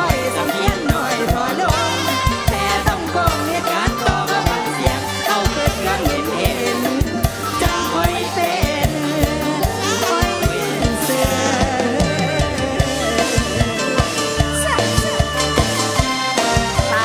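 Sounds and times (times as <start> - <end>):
person singing: 0.0 - 16.0, 16.8 - 17.0
fast steady drum beat: 0.0 - 17.0
live band playing up-tempo music: 0.0 - 17.0.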